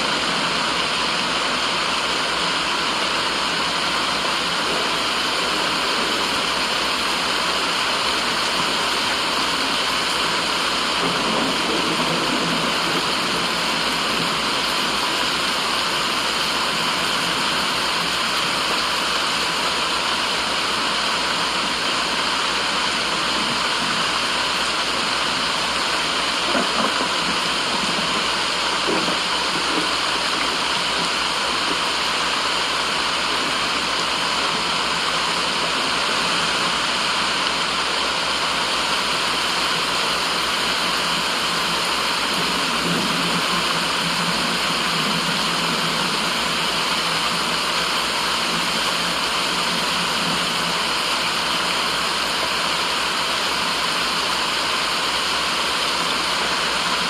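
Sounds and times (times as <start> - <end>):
rushing white noise: 0.0 - 57.0.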